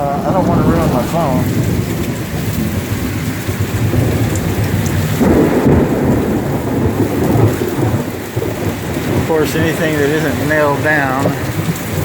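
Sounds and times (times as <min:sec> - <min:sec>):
heavy rain pouring: 0:00.0 - 0:12.0
low thunder rumble: 0:00.0 - 0:12.0
strong wind gusts: 0:00.0 - 0:12.0.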